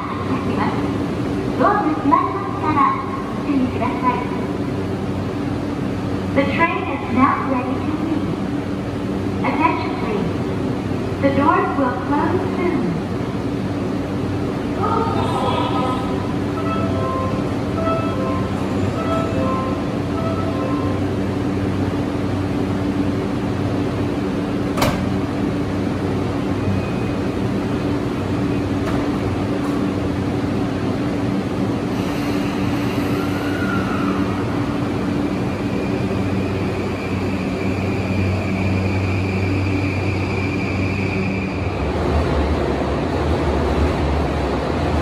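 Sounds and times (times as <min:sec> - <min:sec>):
train electrical hum: 0:00.0 - 0:45.0.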